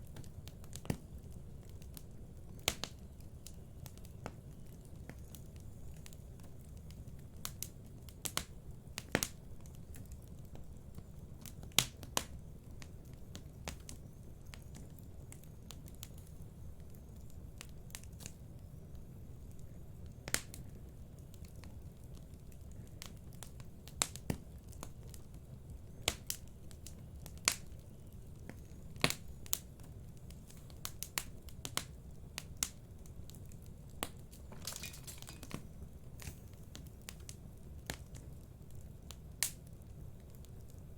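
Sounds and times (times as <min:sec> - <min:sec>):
fire crackling and popping: 0:00.0 - 0:40.9
fire flames rumbling: 0:00.0 - 0:40.9.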